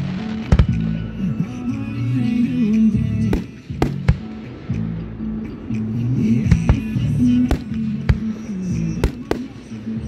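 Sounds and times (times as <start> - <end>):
fireworks bangs: 0.0 - 2.4, 3.2 - 10.0
music with low sustained notes: 0.0 - 10.0.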